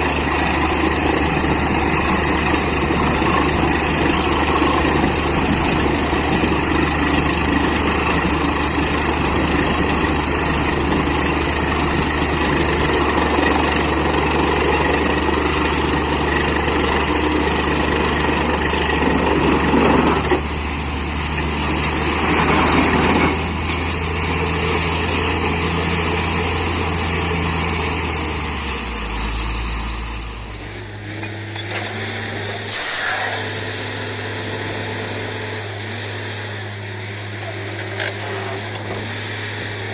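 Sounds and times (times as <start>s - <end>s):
broad machine noise: 0.0s - 39.9s
drilling rig engine running: 0.0s - 39.9s.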